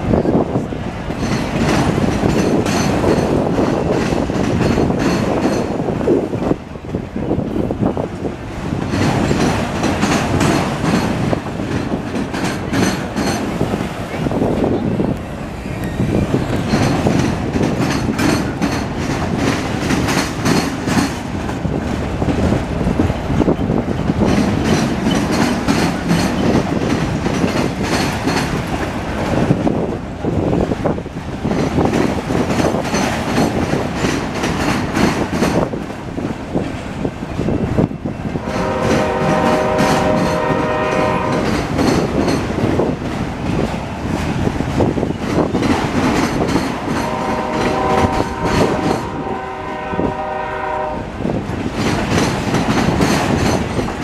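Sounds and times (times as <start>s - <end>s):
freight train rumbling past: 0.0s - 54.0s
wheels clacking over rail joints: 0.0s - 54.0s.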